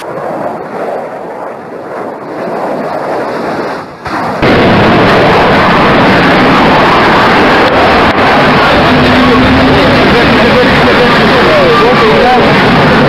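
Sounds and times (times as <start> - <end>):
jet crashing with loud roar: 0.0 - 13.0
rushing noise: 0.0 - 13.0.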